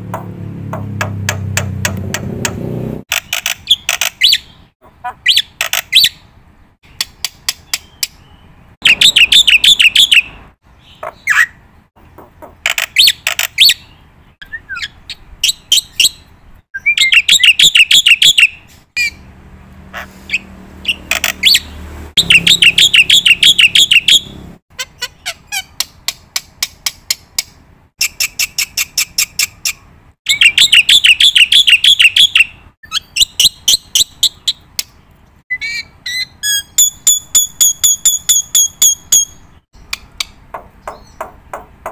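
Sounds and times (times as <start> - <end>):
bird chirping and trilling: 3.1 - 11.8, 12.5 - 19.3, 19.9 - 41.7.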